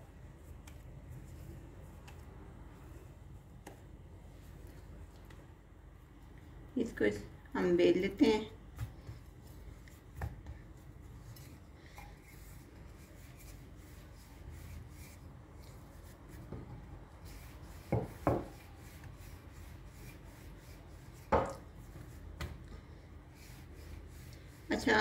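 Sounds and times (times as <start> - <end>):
hands rubbing dough: 0.0 - 6.7, 8.2 - 25.0.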